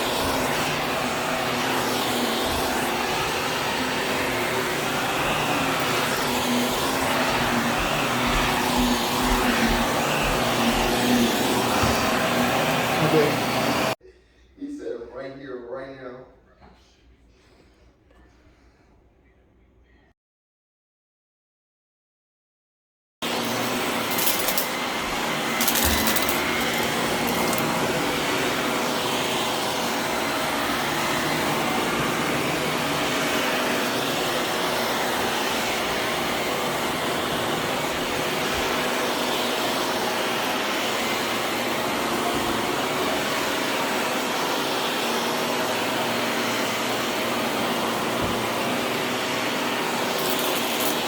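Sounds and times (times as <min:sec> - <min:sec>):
vacuum cleaner running: 0:00.0 - 0:14.0, 0:23.2 - 0:51.0.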